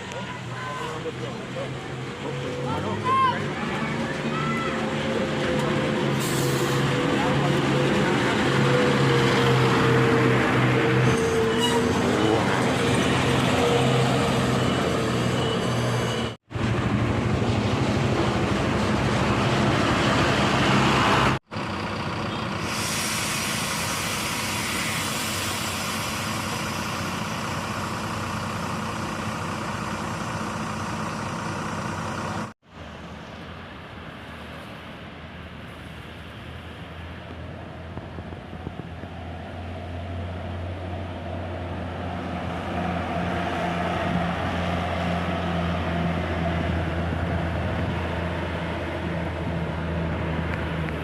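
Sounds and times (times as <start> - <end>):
bus engines passing: 0.0 - 51.0.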